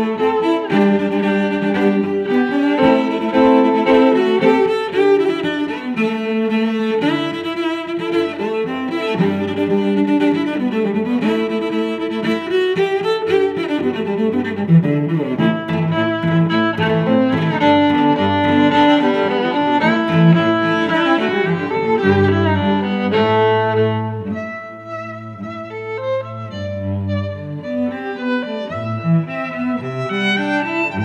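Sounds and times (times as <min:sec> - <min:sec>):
bowed strings music: 0:00.0 - 0:31.0.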